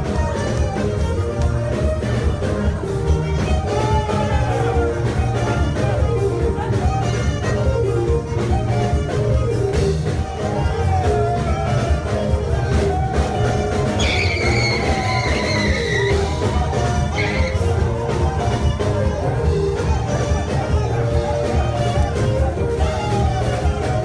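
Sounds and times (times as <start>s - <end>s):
high held tone: 0.0s - 24.0s
music with heavy bass and melody: 0.0s - 24.0s.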